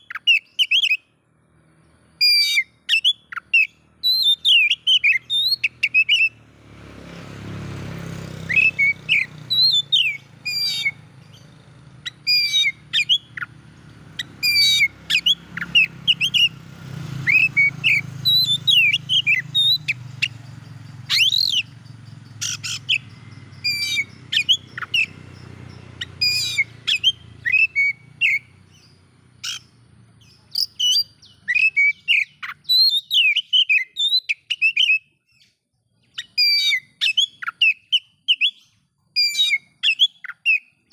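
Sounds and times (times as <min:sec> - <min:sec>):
bird singing whistled notes: 0:00.0 - 0:01.2, 0:02.0 - 0:06.5, 0:07.8 - 0:40.9.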